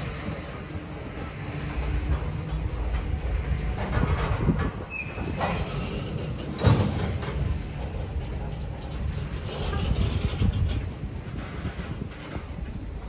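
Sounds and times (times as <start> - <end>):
high squeal: 0.0 - 13.0
train rumbling past: 0.0 - 13.0.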